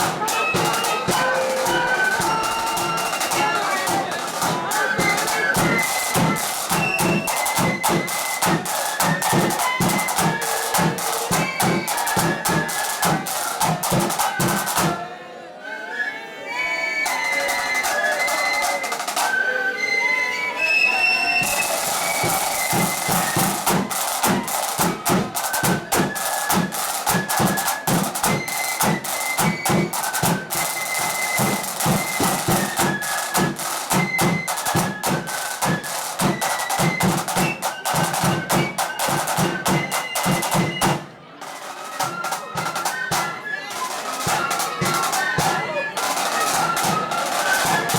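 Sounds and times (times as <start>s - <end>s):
bass and snare drumming: 0.0s - 15.0s, 21.4s - 41.2s, 41.9s - 47.9s
high flutes playing a march: 0.0s - 47.9s.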